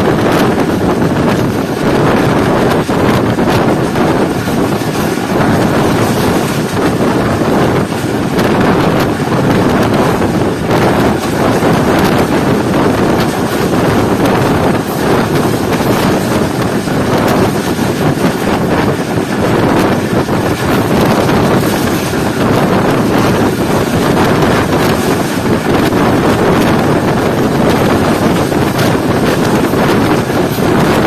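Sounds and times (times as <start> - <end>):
train wheels on rails: 0.0 - 31.0
wind buffeting microphone: 0.0 - 31.0.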